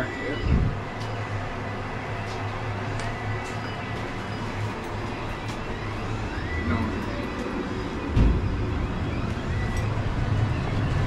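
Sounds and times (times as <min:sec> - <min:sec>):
furnace motor hum: 0:00.0 - 0:11.0.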